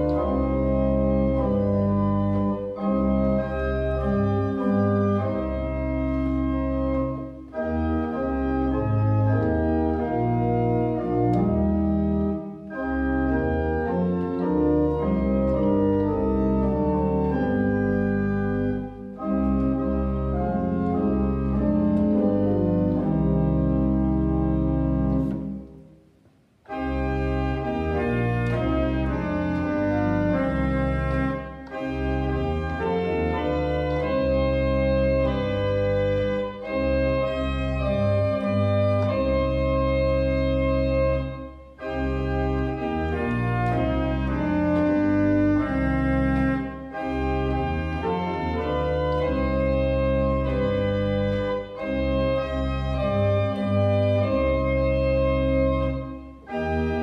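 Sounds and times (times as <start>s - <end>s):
church pipe organ playing: 0.0s - 25.9s, 26.6s - 57.0s.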